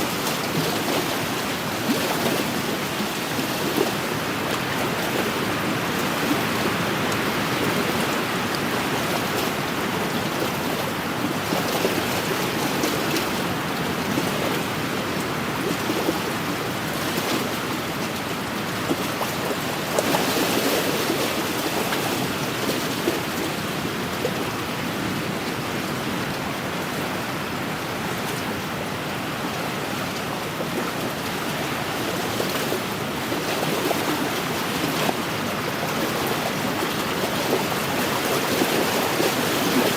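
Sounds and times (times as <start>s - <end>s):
waves washing on shore: 0.0s - 39.9s
wind: 0.0s - 39.9s.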